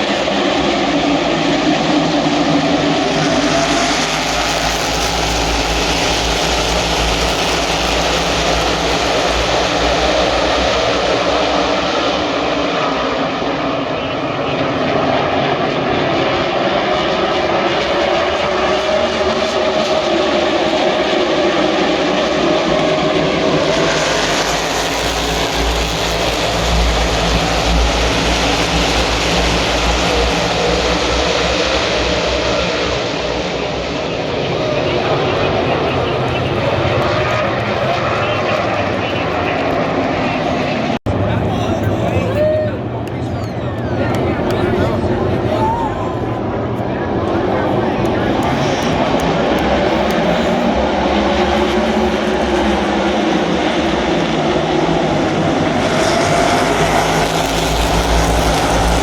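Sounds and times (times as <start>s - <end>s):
race car engines droning: 0.0s - 59.0s.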